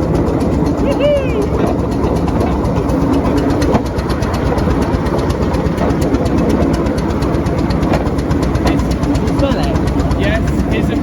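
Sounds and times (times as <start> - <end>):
train engine rumble: 0.0 - 11.0
wheels clicking on track: 0.0 - 11.0.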